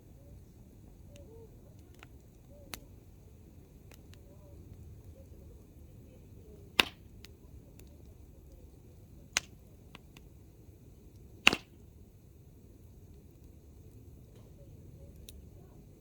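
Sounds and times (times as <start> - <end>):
faint fire crackles: 0.0 - 16.0
fire's low steady rush: 0.0 - 16.0
firewood popping: 0.4 - 16.0.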